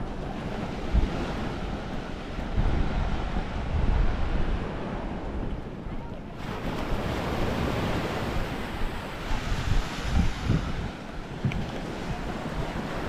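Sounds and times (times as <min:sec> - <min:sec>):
small waves washing on beach: 0:00.0 - 0:13.0
wind gusting on microphone: 0:00.0 - 0:13.0.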